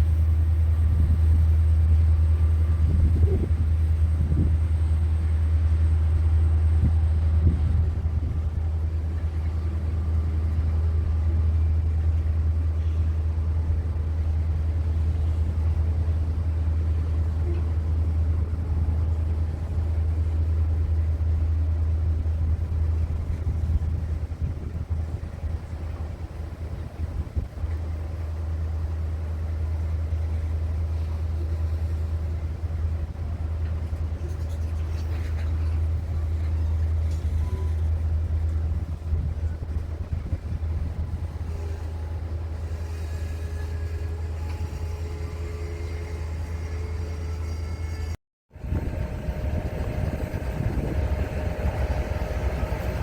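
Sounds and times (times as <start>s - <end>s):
large engine rumbling: 0.0s - 53.0s.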